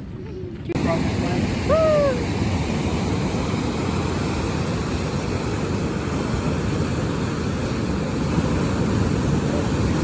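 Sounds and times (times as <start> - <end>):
ocean surf rumble: 0.0 - 10.0
wind buffeting microphone: 0.0 - 10.0.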